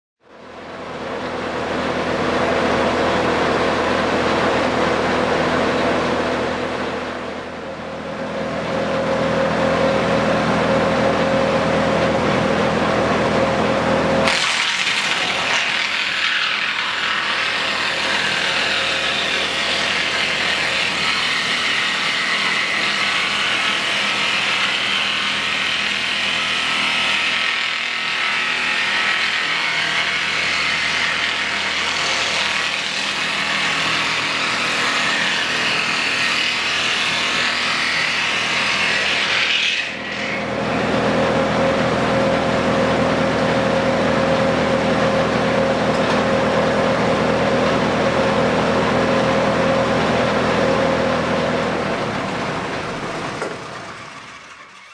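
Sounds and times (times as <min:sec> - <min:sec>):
milling machine humming: 0:00.4 - 0:54.9.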